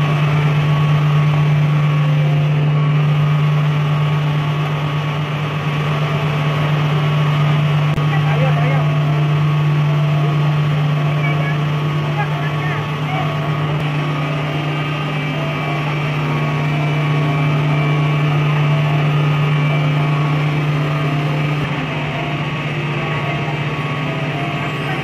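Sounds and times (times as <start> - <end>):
machine droning hum: 0.0 - 25.0.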